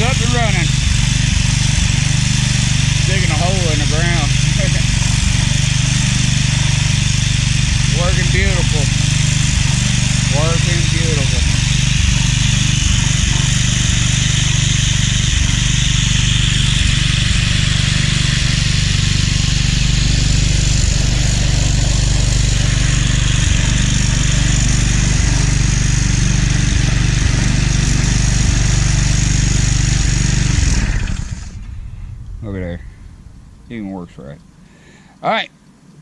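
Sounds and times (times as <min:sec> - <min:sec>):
string trimmer engine running: 0:00.0 - 0:33.1.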